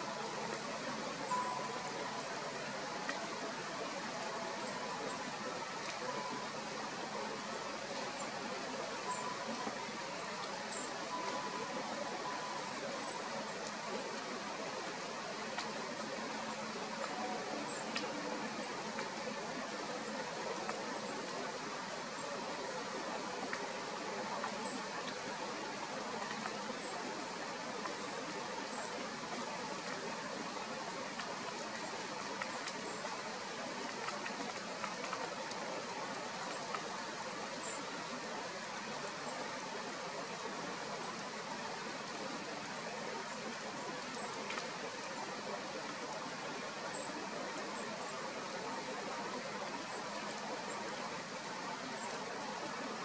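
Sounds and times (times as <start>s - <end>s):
outdoor background hiss: 0.0s - 53.0s.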